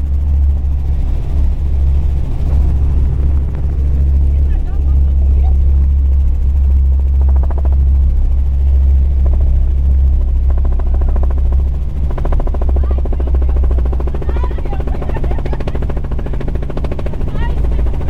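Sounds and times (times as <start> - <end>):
helicopter engine drone: 0.0 - 18.0
rotor blades chopping: 0.0 - 18.0.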